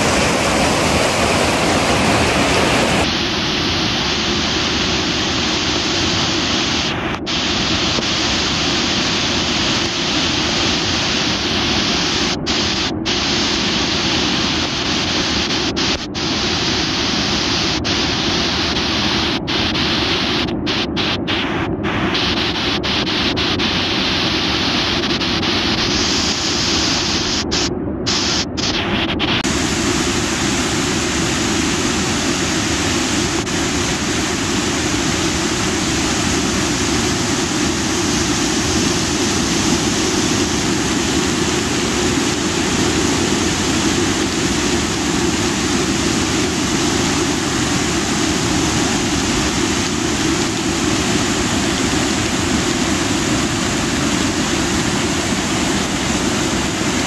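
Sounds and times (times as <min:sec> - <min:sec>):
loud rush of flooding river: 0:00.0 - 0:57.0.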